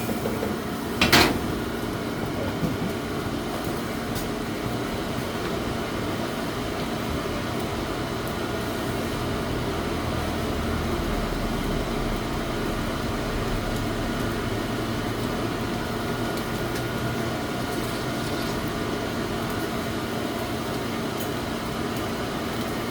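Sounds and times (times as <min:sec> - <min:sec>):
machine hum: 0:00.0 - 0:19.4.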